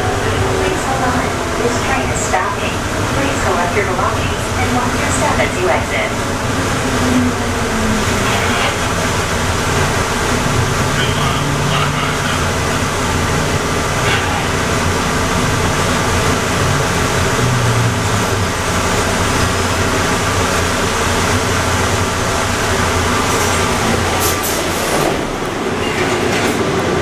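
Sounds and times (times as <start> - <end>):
train car hum and rumble: 0.0 - 27.0.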